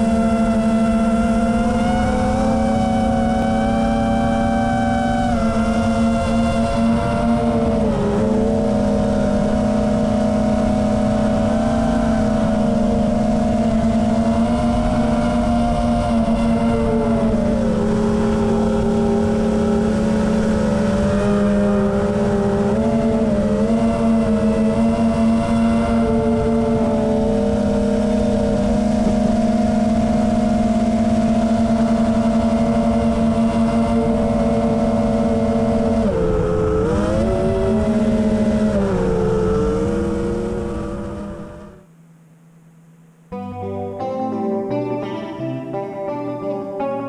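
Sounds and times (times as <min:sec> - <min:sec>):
drone motors whining: 0:00.0 - 0:42.4.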